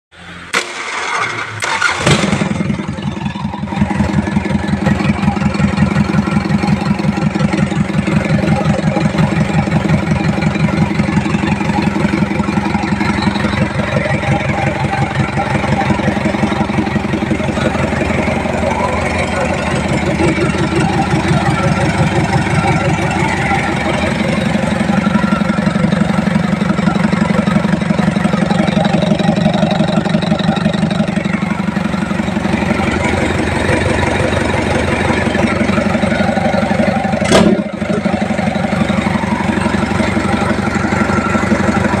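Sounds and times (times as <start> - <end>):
engine running with rapid pulse: 0.2 - 42.0.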